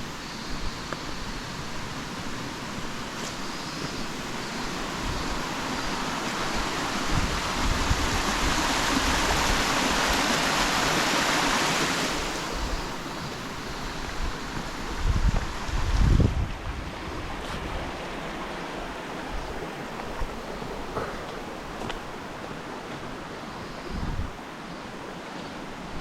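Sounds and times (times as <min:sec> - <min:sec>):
wind rumble on microphone: 0:00.0 - 0:24.4
rushing stream water: 0:00.0 - 0:26.0.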